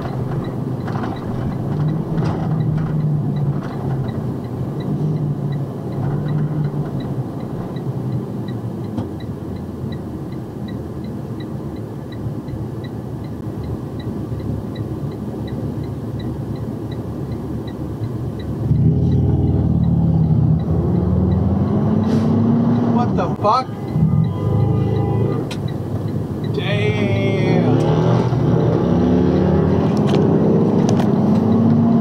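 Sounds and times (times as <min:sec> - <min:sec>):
truck engine and road rumble: 0:00.0 - 0:32.0
turn signal ticking: 0:00.0 - 0:32.0.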